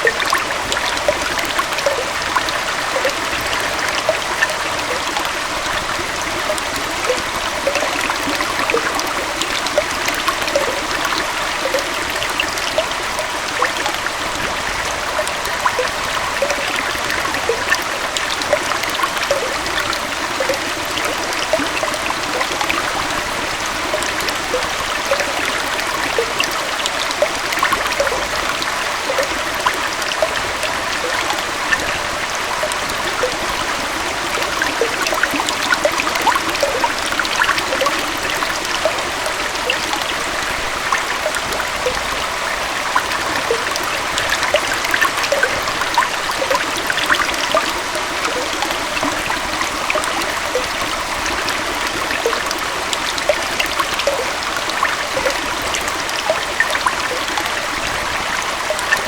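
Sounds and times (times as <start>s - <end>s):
water bubbling plinks: 0.0s - 59.0s.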